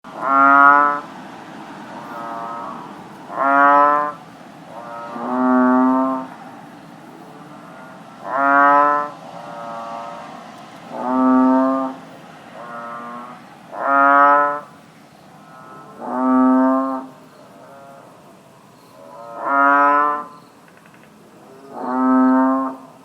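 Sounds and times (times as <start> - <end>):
bullfrogs calling: 0.1 - 23.0.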